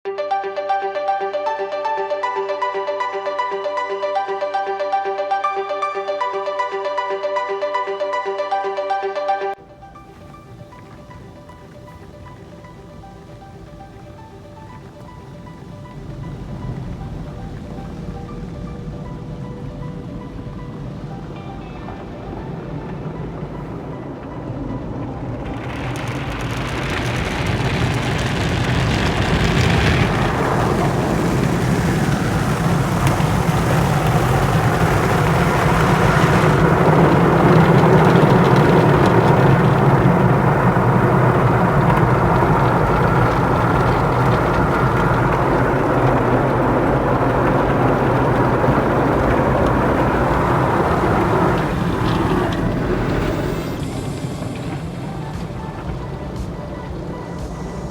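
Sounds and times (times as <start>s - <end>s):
car wash machinery rushing: 9.6s - 57.9s.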